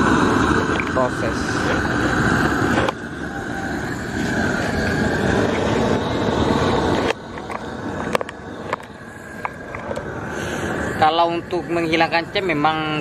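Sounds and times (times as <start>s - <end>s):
gas torch burning with rushing hiss: 0.0s - 13.0s.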